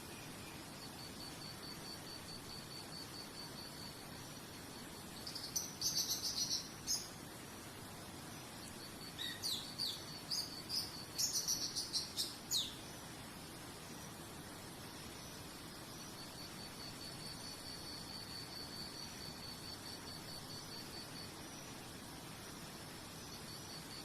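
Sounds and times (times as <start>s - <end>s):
faint outdoor hiss: 0.0s - 24.0s
insect trill: 0.0s - 24.0s
songbird singing: 0.0s - 24.0s.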